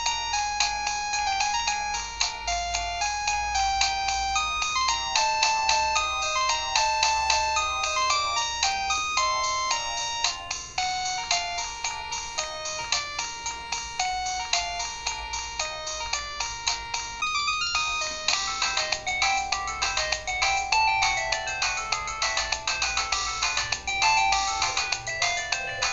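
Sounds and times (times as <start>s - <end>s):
polyphonic ringtone melody: 0.0s - 25.9s.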